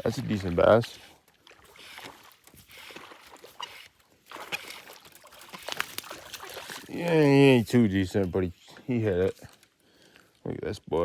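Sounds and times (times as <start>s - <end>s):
water splashing and dripping: 0.0s - 8.8s.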